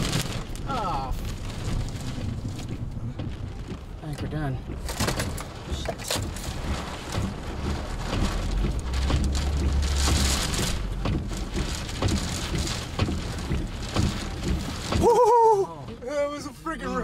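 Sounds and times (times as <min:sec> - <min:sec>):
rain and debris pelting windshield: 0:00.0 - 0:17.0
wind buffeting vehicle: 0:00.0 - 0:17.0.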